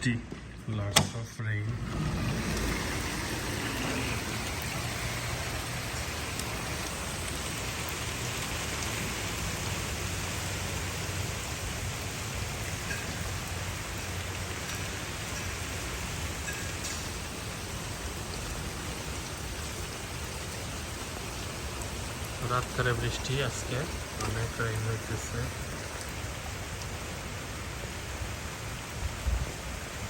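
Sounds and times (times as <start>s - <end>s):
heavy rain falling: 1.7s - 30.0s.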